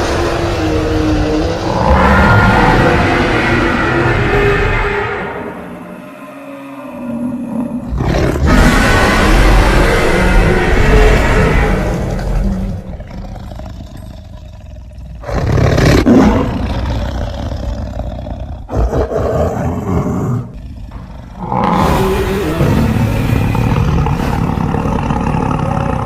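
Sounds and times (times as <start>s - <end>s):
dinosaur roar: 0.0s - 26.0s
low growling: 0.0s - 26.0s.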